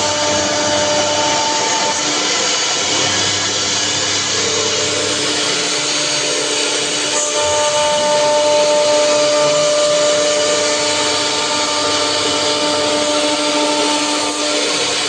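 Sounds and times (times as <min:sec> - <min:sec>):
bit cutting wood: 0:00.0 - 0:15.0
router spindle whine: 0:00.0 - 0:15.0.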